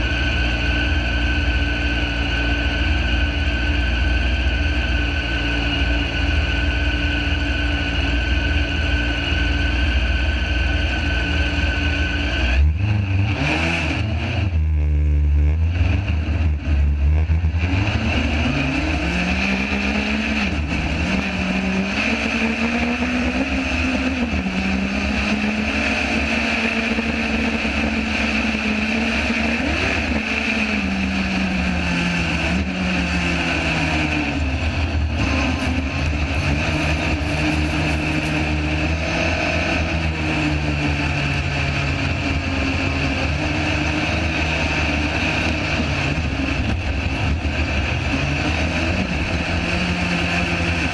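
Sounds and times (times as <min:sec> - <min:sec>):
off-road buggy engine revving: 0:00.0 - 0:50.9.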